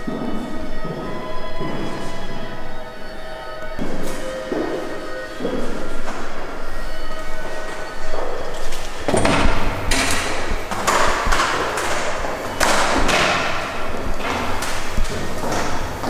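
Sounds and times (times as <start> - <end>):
footsteps on wooden stairs: 0.0 - 2.6, 3.7 - 16.0.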